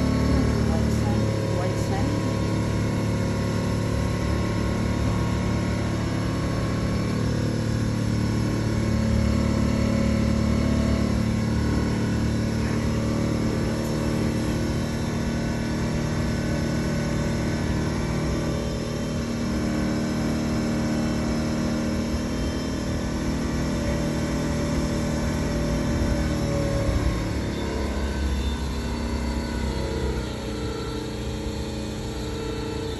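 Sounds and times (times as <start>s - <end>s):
boat motor running: 0.0s - 32.9s.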